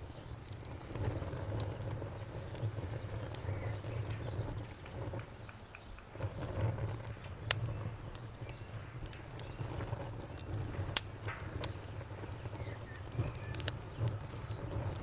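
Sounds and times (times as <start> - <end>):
campfire crackling and popping: 0.0 - 15.0
low rumble of flames: 0.0 - 15.0.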